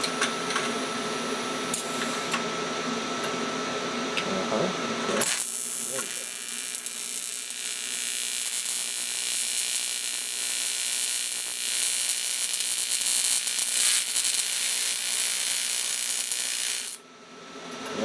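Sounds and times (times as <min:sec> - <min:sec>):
welding arc hissing buzz: 0:00.0 - 0:02.8, 0:05.2 - 0:17.0.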